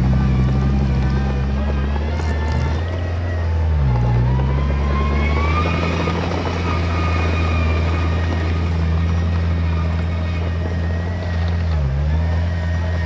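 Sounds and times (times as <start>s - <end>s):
diesel engine droning: 0.0s - 13.0s
faint engine whine: 0.0s - 13.0s.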